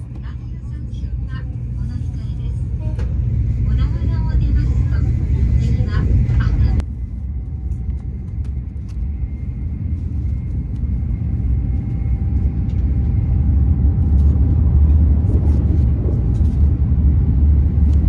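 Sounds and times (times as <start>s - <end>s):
train cabin low rumble: 0.0s - 18.0s.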